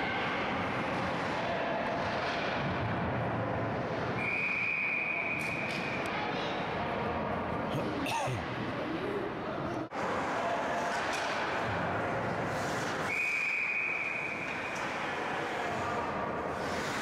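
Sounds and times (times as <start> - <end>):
ice rink background noise: 0.0 - 17.0.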